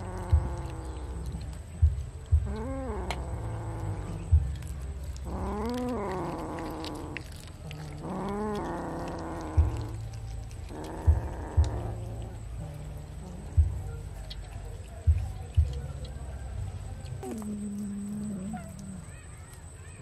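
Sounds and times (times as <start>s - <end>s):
low thumps: 0.0s - 17.6s.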